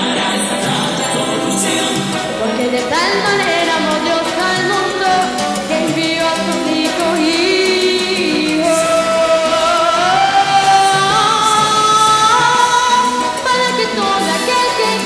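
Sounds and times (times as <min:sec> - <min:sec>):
backing music with beat: 0:00.0 - 0:15.0
girl singing into microphone: 0:01.6 - 0:15.0.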